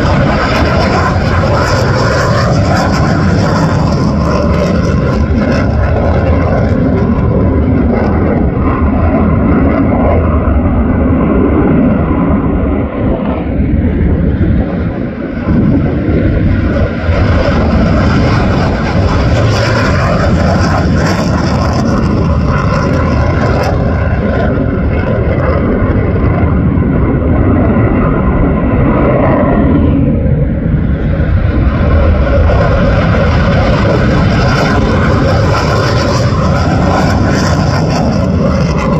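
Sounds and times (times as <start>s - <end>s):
jet engines roaring past: 0.0s - 38.9s.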